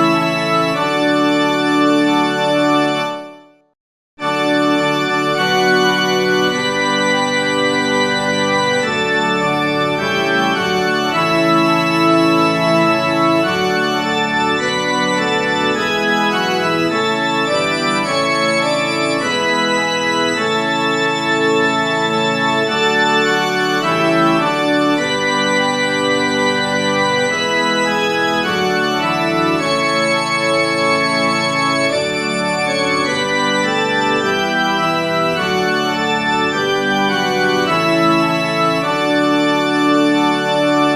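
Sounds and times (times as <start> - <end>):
organ playing sustained chords: 0.0 - 3.2, 4.2 - 40.9.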